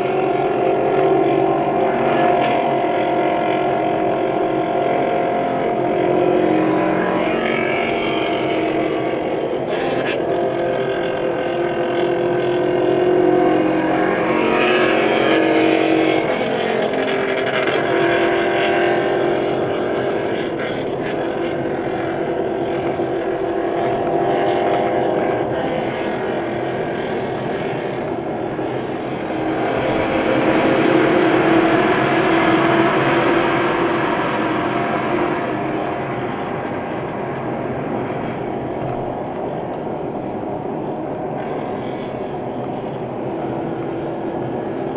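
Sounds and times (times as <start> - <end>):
car engine and tyre road noise: 0.0 - 44.9.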